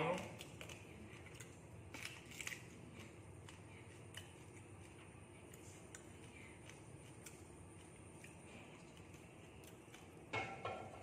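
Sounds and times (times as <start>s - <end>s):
crunchy chewing of food: 0.0s - 11.0s.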